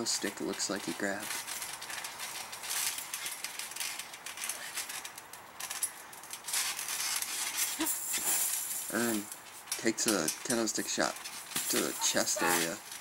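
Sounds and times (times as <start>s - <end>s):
steady outdoor hiss: 0.0s - 13.0s
stick dragging through tacks: 0.0s - 13.0s
thumbtacks rattling on a mat: 0.0s - 13.0s.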